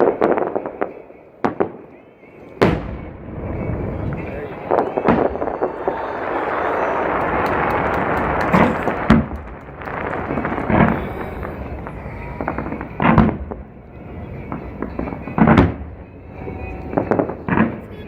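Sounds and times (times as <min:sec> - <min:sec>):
fireworks booms: 0:00.0 - 0:18.0
fireworks crackle: 0:00.0 - 0:18.0.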